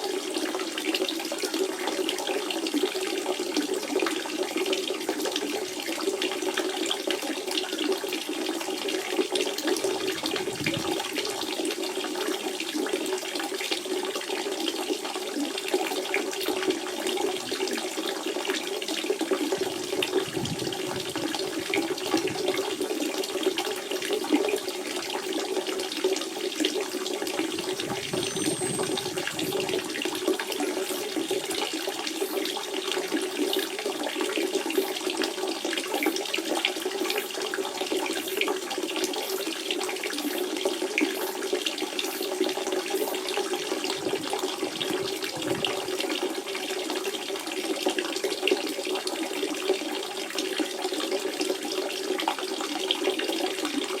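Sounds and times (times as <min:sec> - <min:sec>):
spring water gurgling: 0:00.0 - 0:54.0.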